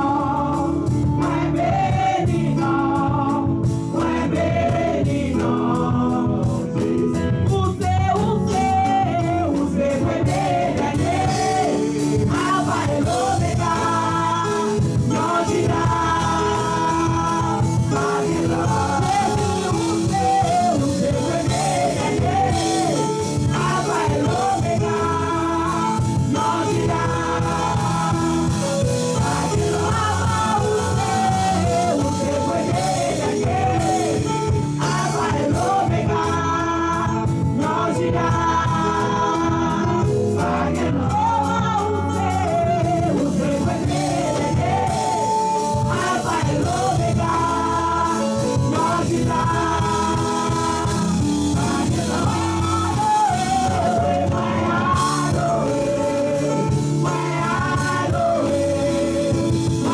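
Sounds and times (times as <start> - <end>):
woman singing into microphone: 0.0 - 28.6, 29.2 - 59.9
band with keyboard and guitar: 0.0 - 59.9.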